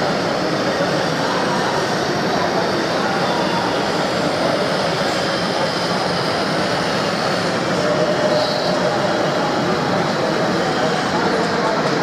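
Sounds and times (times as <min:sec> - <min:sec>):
hydraulic pump whine and hum: 0:00.0 - 0:12.0.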